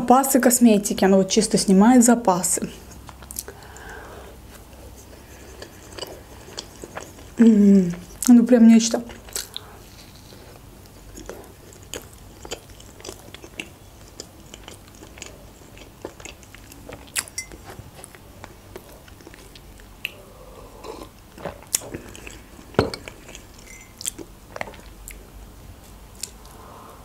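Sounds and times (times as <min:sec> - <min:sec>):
person chewing soft food: 0:02.8 - 0:08.3, 0:09.1 - 0:25.3, 0:26.1 - 0:26.7.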